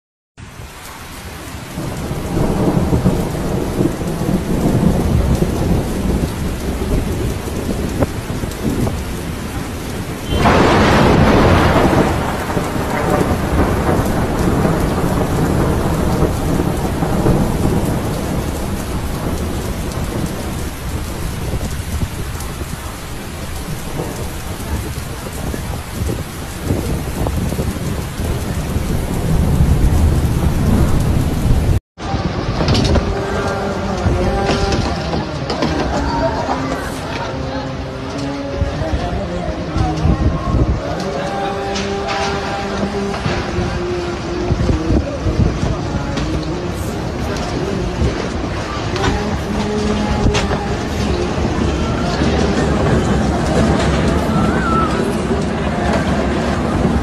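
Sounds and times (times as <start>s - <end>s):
heavy rain pouring: 0.4s - 57.0s
low rolling thunder: 0.4s - 57.0s.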